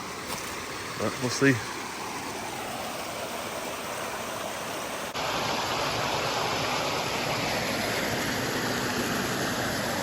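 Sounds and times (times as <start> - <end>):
creek rushing over rocks: 0.0 - 10.0.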